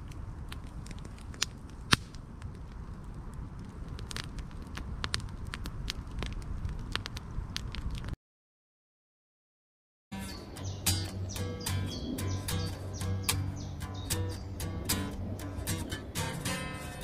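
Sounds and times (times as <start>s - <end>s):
campfire crackling and popping: 0.0s - 8.2s, 10.2s - 17.0s.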